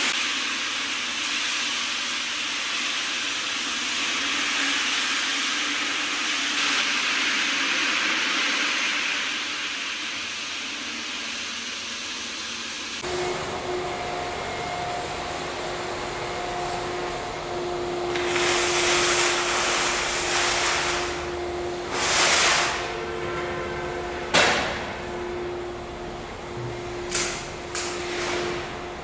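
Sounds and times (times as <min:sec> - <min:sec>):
steady hum: 0:02.3 - 0:29.0.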